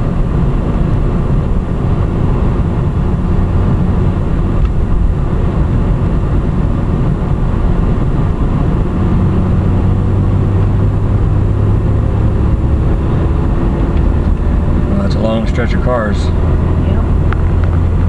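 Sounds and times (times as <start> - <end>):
car engine drone: 0.0 - 18.0
tyre and road rumble: 0.0 - 18.0.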